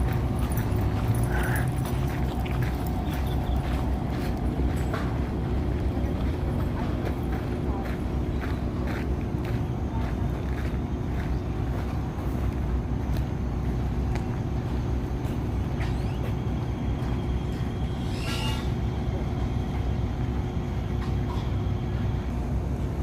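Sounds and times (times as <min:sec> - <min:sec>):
low rumble of road traffic: 0:00.0 - 0:23.0.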